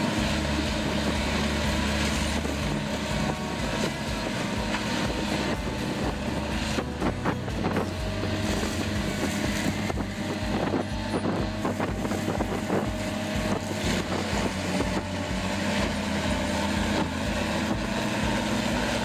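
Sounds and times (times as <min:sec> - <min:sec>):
wood chipper engine droning: 0:00.0 - 0:19.0.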